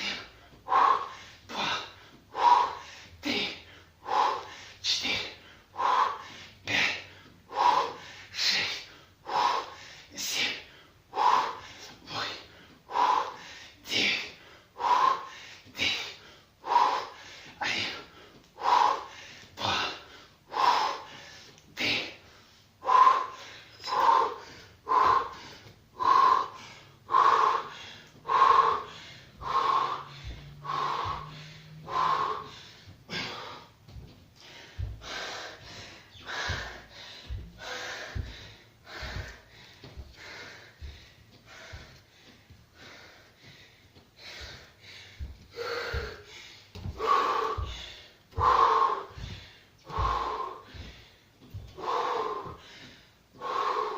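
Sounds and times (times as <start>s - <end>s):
person breathing hard: 0.0s - 53.9s.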